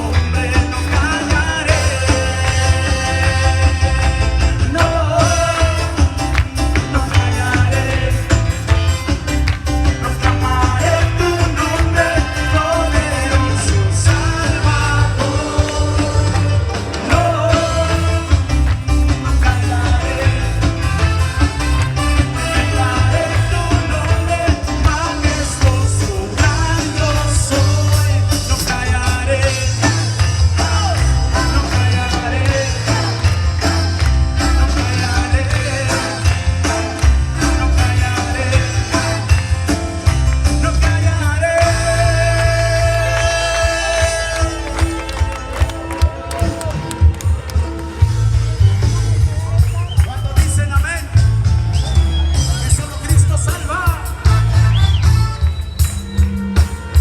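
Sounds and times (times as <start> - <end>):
person singing: 0.0 - 9.2, 9.8 - 49.0
heavy bass: 0.0 - 57.0
live band playing upbeat song: 0.0 - 57.0
steady drumbeat: 0.0 - 57.0.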